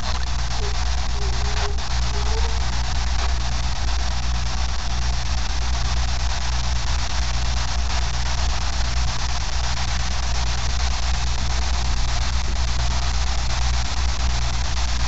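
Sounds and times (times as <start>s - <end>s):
even hiss: 0.0s - 15.0s
low electrical hum: 0.0s - 15.0s.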